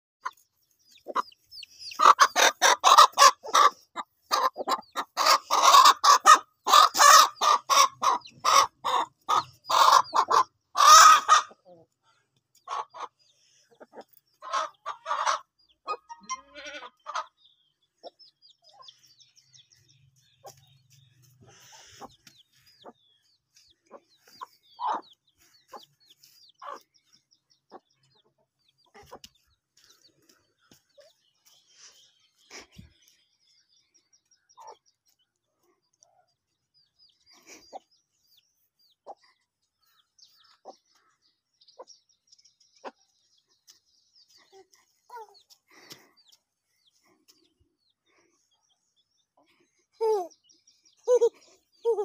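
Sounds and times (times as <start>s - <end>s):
chicken clucking: 0.2s - 42.0s, 42.6s - 50.4s, 51.0s - 52.0s
small birds chirping: 0.2s - 52.0s.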